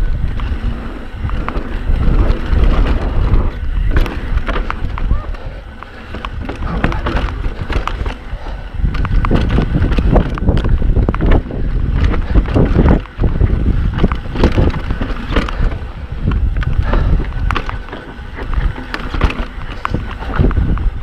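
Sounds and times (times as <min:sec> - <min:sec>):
bike rattles and knocks: 0:00.0 - 0:21.0
tyres rumbling over ground: 0:00.0 - 0:21.0
wind buffeting microphone: 0:00.0 - 0:21.0.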